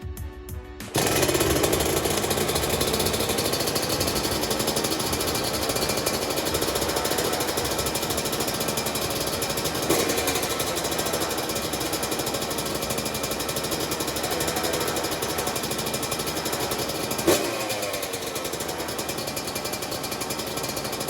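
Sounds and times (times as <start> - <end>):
two-stroke engine idling: 0.9 - 21.0.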